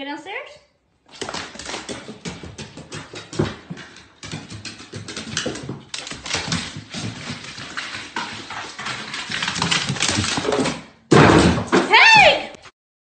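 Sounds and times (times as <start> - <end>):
dog claws on wooden stairs: 1.1 - 12.0.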